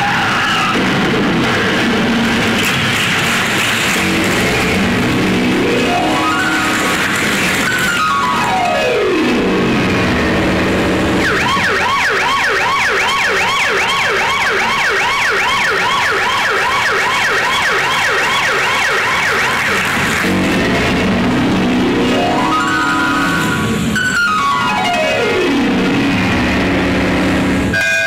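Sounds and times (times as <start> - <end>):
emergency siren yelping wail: 4.3 - 28.0
siren rising glide: 4.6 - 28.0.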